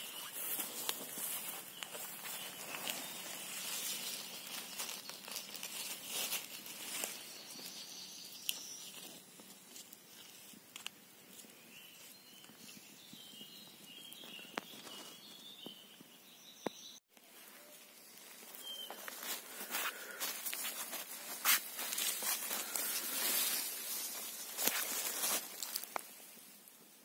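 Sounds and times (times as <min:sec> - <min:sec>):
footsteps in leaf litter: 0:00.0 - 0:12.7, 0:17.3 - 0:26.4
rustling of grass and leaves: 0:00.0 - 0:27.0.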